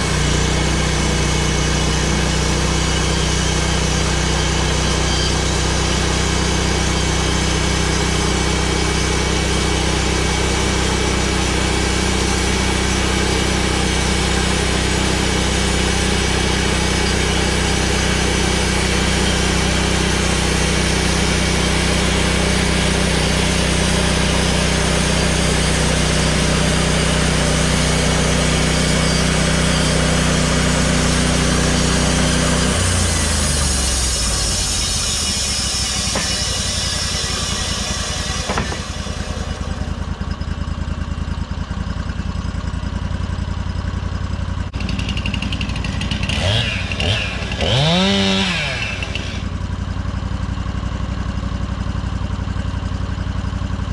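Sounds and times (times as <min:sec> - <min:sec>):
saw blade cutting log: 0:00.0 - 0:40.7, 0:44.7 - 0:50.0
sawmill engine running under load: 0:00.0 - 0:53.9.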